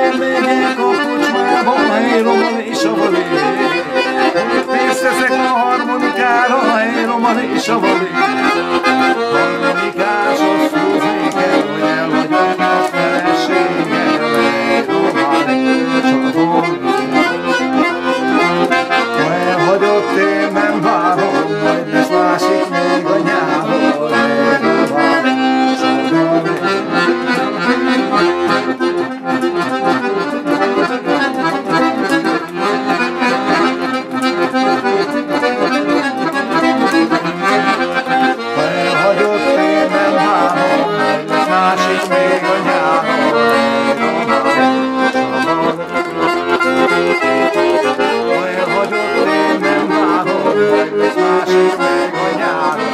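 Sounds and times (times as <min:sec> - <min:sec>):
piano accordion playing a tune: 0:00.0 - 0:52.9.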